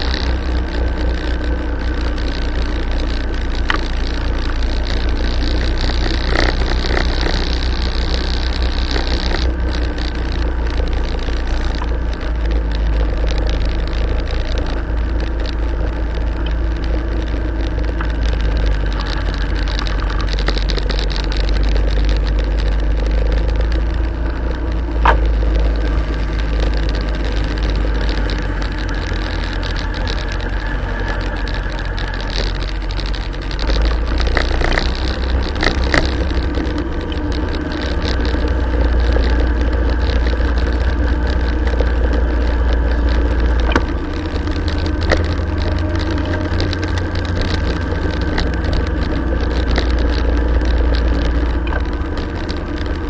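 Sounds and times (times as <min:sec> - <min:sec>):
motorcycle engine running: 0:00.0 - 0:53.0
sharp clicks or rattles: 0:00.0 - 0:53.0
wind rumble on microphone: 0:00.0 - 0:53.0.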